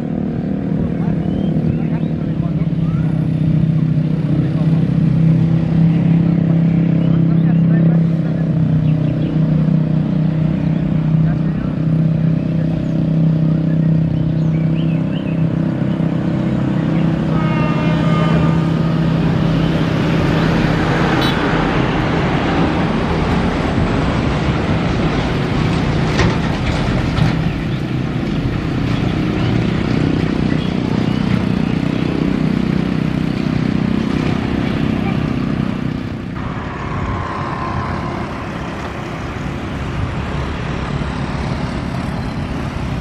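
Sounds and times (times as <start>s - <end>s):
diesel train running: 0.0s - 43.0s
rail noise: 8.0s - 43.0s.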